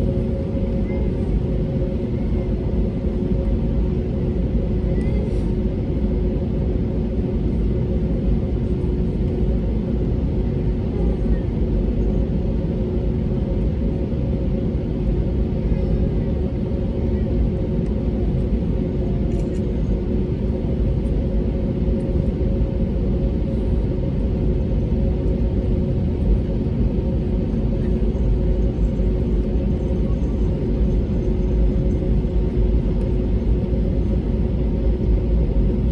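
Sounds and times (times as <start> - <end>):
airplane cabin engine rumble: 0.0 - 35.9.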